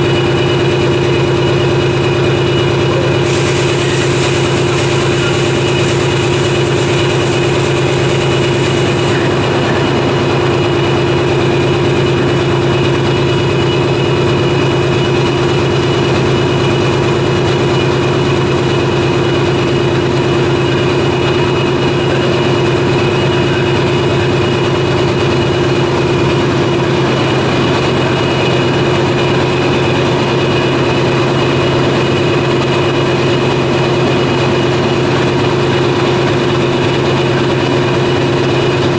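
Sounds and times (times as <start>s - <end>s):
diesel machinery droning: 0.0s - 38.9s.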